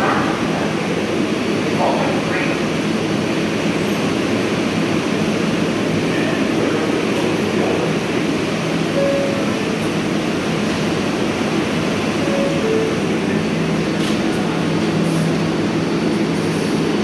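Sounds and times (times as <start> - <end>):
train ventilation hum: 0.0 - 17.0.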